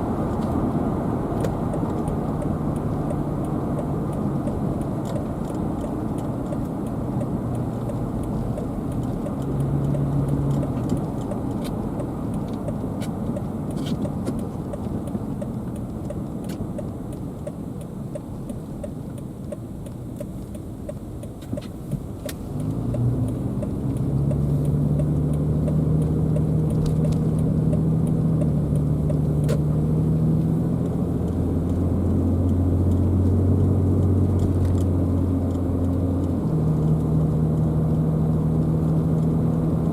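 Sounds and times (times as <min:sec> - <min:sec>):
car road and engine noise: 0:00.0 - 0:39.9
light ticks and rattles: 0:00.3 - 0:39.9.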